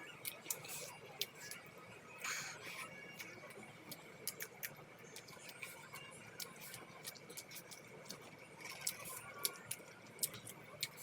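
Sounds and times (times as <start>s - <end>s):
person chewing food: 0.2s - 1.6s, 2.2s - 11.0s.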